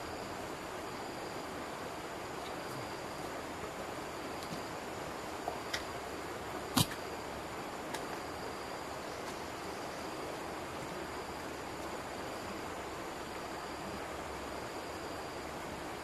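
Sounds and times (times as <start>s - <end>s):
faint high insect drone: 0.0s - 16.0s
steady hiss: 0.0s - 16.0s.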